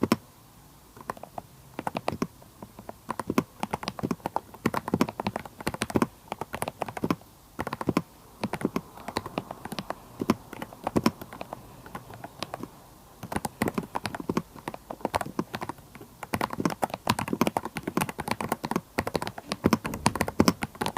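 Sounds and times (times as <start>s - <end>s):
mechanical keyboard typing: 1.0s - 20.9s.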